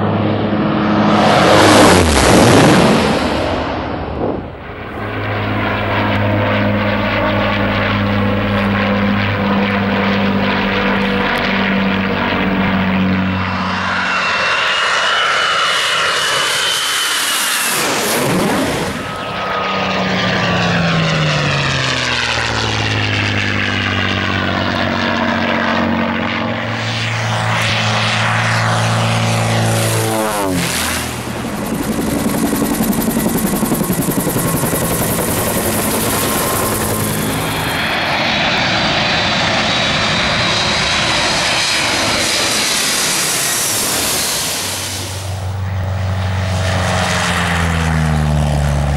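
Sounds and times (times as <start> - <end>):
helicopter rotor beat: 0.0 - 48.9
piston engine aircraft passing: 0.0 - 48.9
single piston engine plane passing: 0.0 - 48.9.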